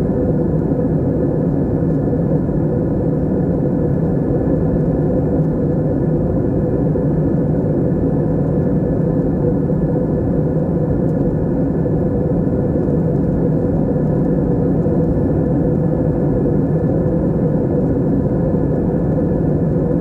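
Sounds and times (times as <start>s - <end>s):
airliner cabin engine drone: 0.0s - 20.0s.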